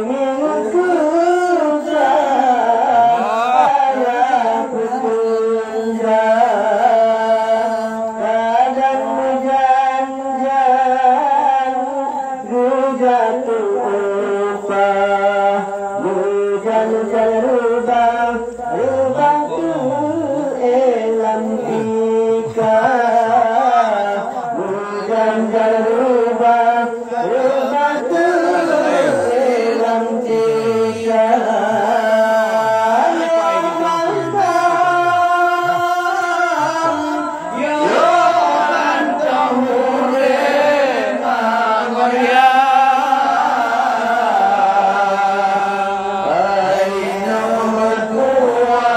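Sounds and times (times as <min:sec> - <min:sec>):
man singing into a microphone: 0:00.0 - 0:48.9.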